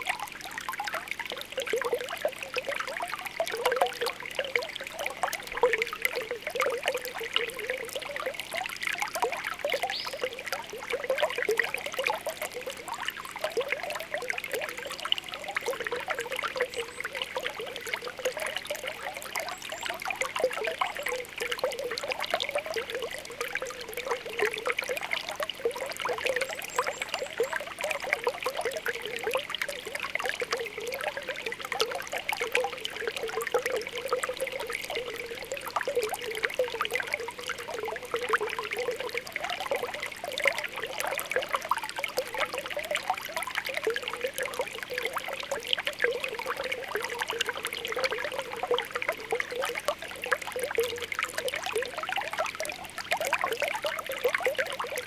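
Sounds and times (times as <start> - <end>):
spring water bubbling and trickling: 0.0 - 55.0.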